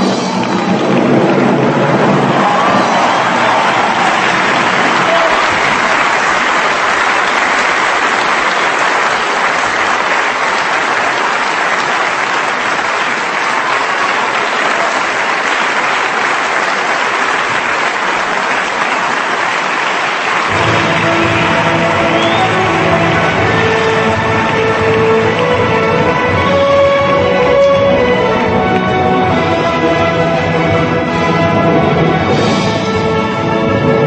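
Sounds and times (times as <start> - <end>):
audience applauding: 0.0 - 32.6.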